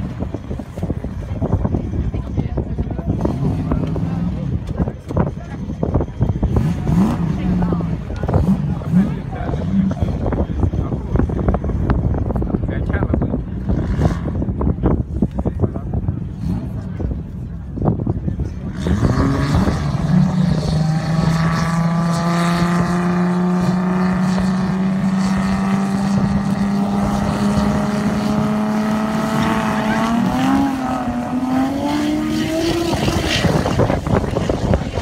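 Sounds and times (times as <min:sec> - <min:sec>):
drag car engines revving: 0:00.0 - 0:35.0.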